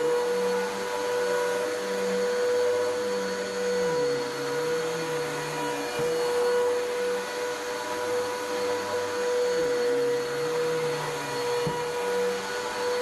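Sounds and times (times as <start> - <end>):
vacuum cleaner running over carpet: 0.0 - 13.0.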